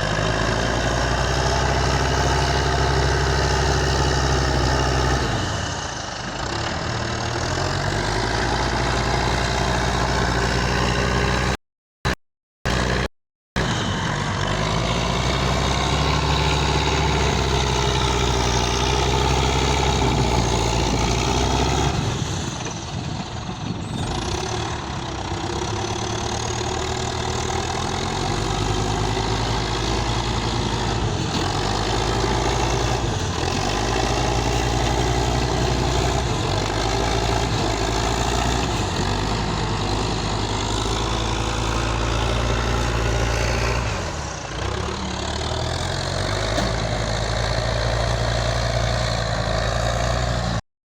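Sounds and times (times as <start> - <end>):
diesel engine running: 0.0 - 50.6.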